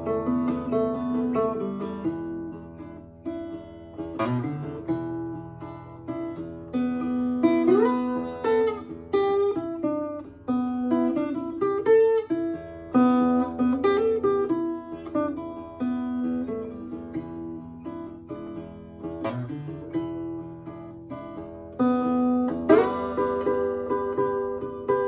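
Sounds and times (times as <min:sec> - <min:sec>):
fingerstyle acoustic blues guitar: 0:00.0 - 0:25.0.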